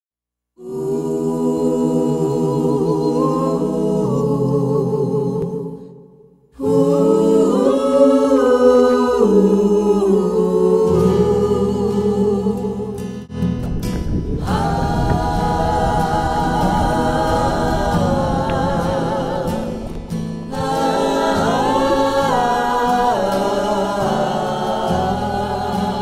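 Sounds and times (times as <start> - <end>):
a cappella choir singing: 0.6 - 13.3, 14.2 - 26.0.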